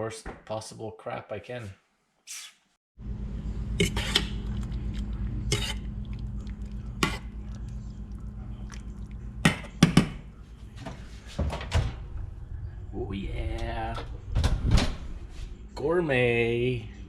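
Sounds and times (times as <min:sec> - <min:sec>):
steady low hum: 0:03.0 - 0:17.0.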